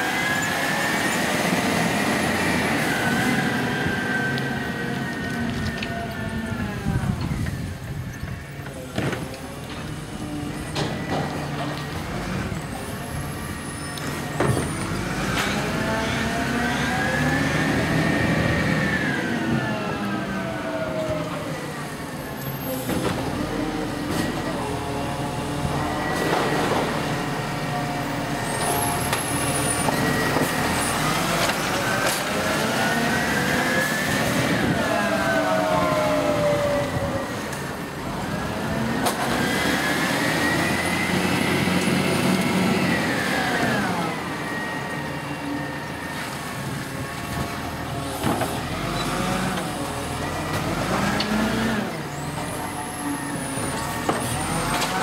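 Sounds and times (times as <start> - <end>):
diesel truck engine revving: 0.0 - 7.6, 9.5 - 55.0.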